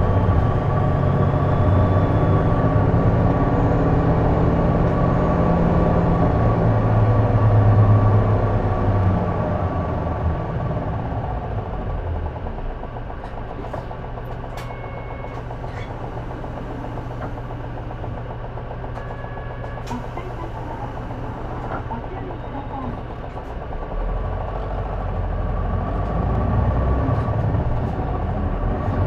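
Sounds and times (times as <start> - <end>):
bus diesel engine idling: 0.0 - 29.0.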